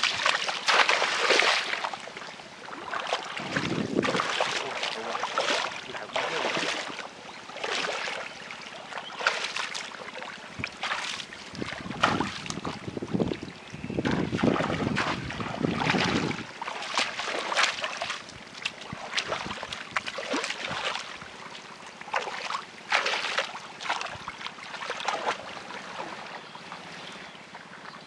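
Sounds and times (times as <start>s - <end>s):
muddy water splashing: 0.0s - 28.0s.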